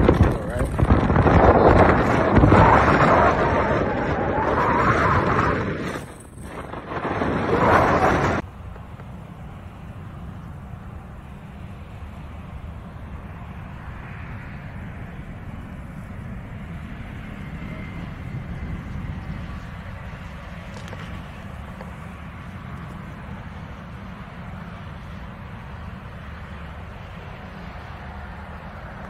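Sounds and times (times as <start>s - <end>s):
turboprop aircraft engine: 0.0s - 29.0s
wind buffeting microphone: 0.0s - 29.0s.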